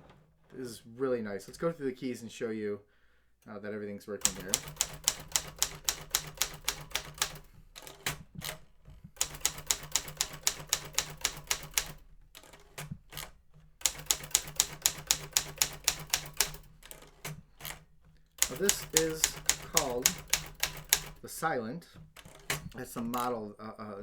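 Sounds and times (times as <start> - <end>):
manual typewriter typing: 4.2 - 23.5.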